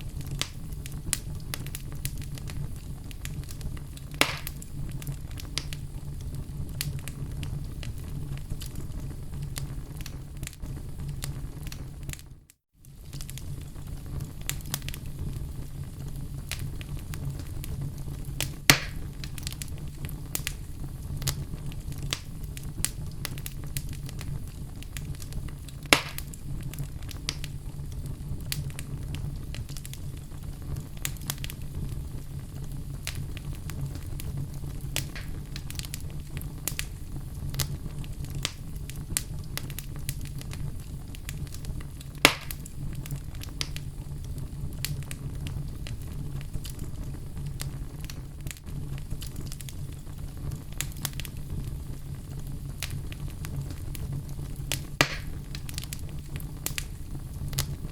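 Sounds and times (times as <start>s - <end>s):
log fire crackling: 0.0s - 57.9s.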